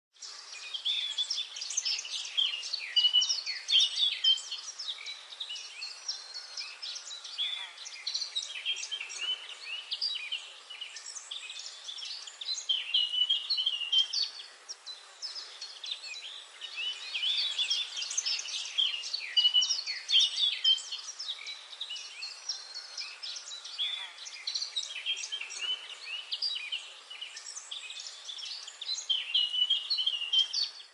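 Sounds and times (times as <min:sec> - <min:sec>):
songbirds chirping and singing: 0:00.2 - 0:30.9.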